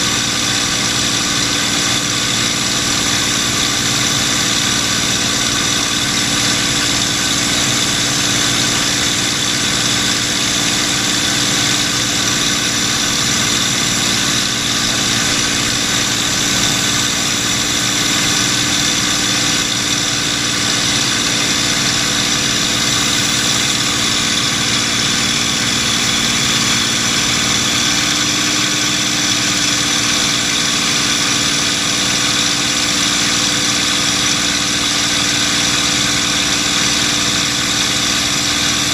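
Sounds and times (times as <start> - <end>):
plane engine drone in cockpit: 0.0 - 38.9.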